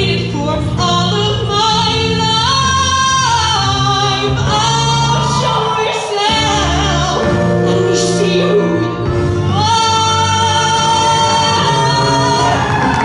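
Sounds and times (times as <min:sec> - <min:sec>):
live band accompaniment: 0:00.0 - 0:13.0.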